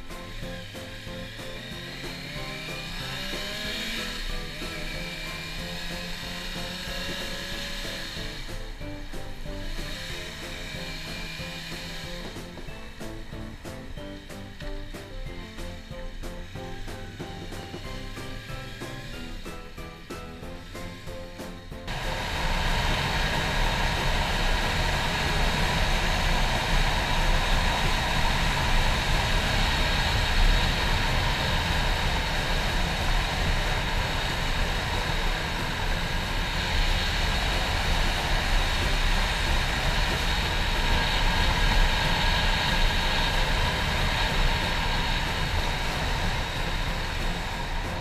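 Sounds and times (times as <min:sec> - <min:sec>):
motorcycle engine droning: 0:00.0 - 0:48.0.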